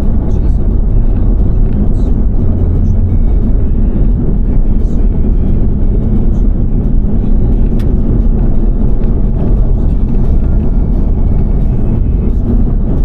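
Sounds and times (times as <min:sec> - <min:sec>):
truck driving road rumble: 0:00.0 - 0:13.0.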